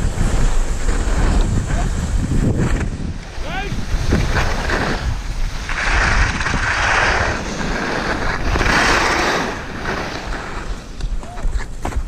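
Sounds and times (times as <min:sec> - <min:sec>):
skis scraping on packed snow: 0:00.0 - 0:12.0
wind buffeting microphone: 0:00.0 - 0:12.0.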